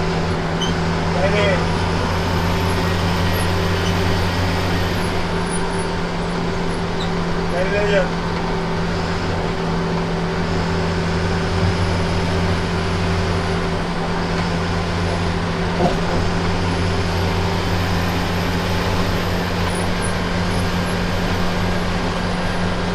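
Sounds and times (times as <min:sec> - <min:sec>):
bus engine running: 0:00.0 - 0:22.9.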